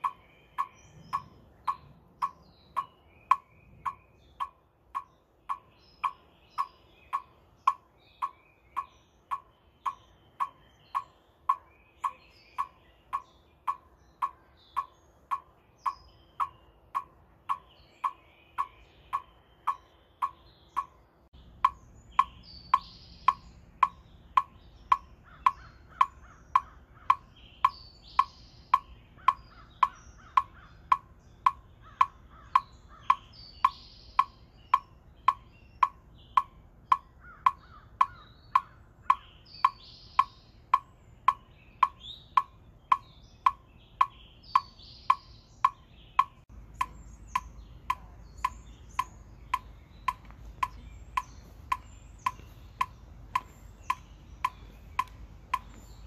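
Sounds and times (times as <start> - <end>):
birds chirping: 0.0 - 56.0
metronome clicking: 0.0 - 56.0.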